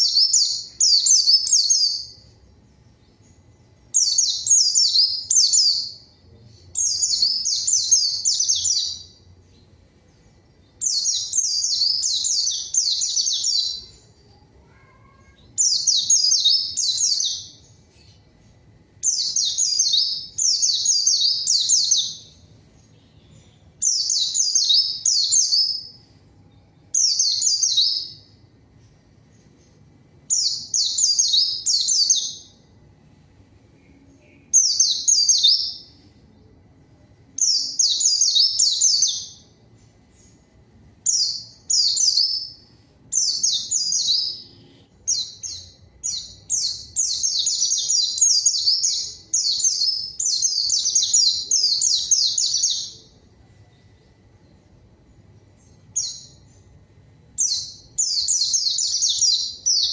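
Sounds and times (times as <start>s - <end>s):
bird singing chattering song: 0.0s - 32.7s, 33.8s - 36.5s, 37.3s - 53.2s, 55.4s - 56.8s, 57.4s - 59.9s.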